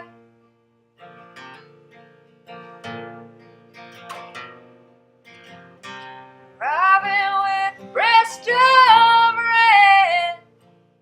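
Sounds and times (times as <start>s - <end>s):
acoustic guitar picking: 0.0s - 11.0s.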